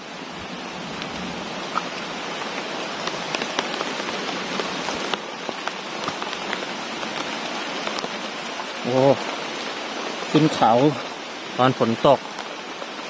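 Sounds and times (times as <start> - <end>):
rain falling on foliage: 0.0 - 13.0.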